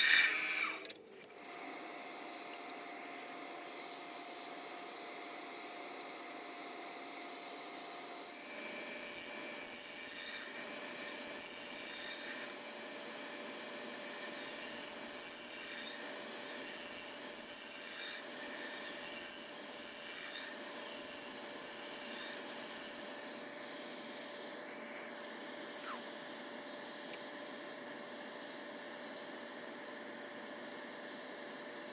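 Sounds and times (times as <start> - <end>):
wood lathe whine: 0.0 - 31.9.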